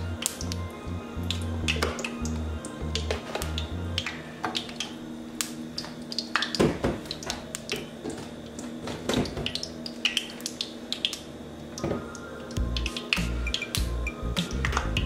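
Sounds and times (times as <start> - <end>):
oil crackling in frying pan: 0.0 - 15.0.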